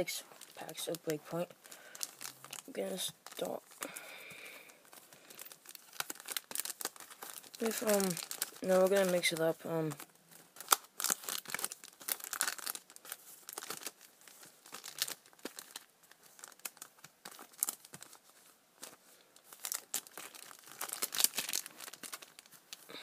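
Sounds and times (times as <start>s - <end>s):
foil packs crinkling: 0.0s - 23.0s.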